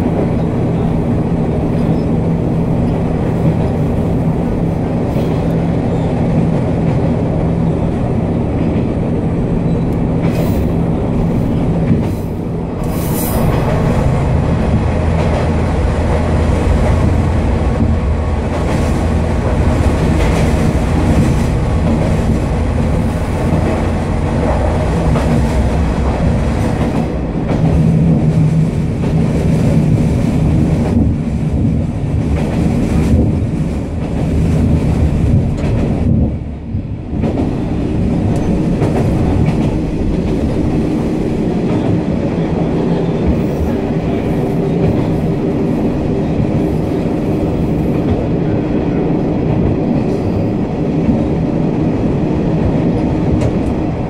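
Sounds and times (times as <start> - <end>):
railcar engine rumble: 0.0 - 54.0.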